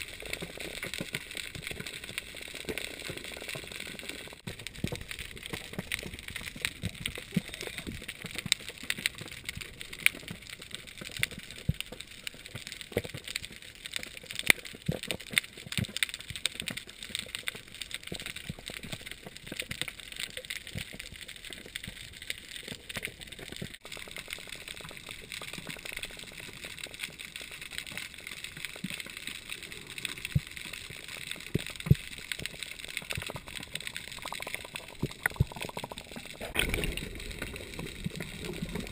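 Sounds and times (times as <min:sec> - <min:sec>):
reef crackling clicks: 0:00.0 - 0:38.9.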